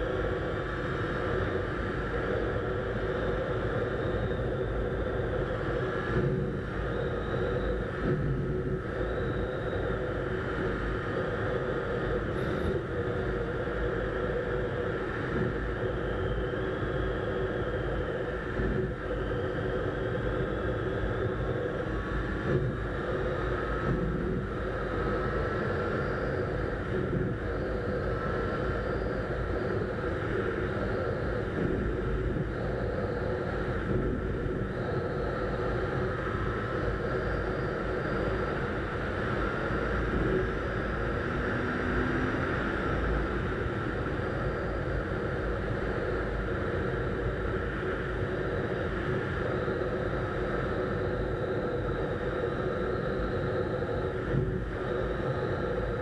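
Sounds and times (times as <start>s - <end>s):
wind and road rush: 0.0s - 56.0s.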